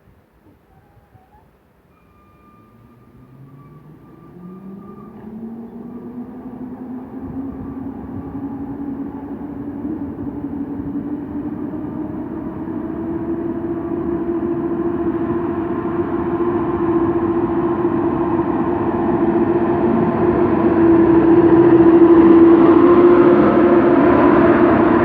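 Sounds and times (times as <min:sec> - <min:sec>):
wheels rumbling on rails: 0:00.1 - 0:25.0
electric train motor whine: 0:01.2 - 0:25.0.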